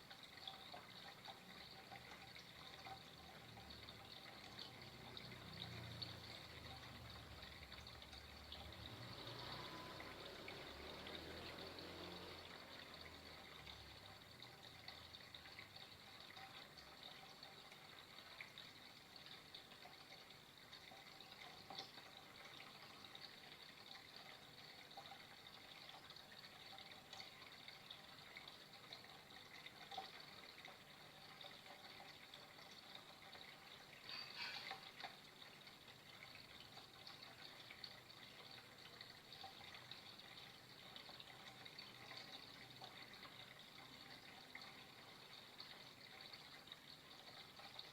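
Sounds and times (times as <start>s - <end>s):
water trickling and splashing: 0.0s - 47.9s.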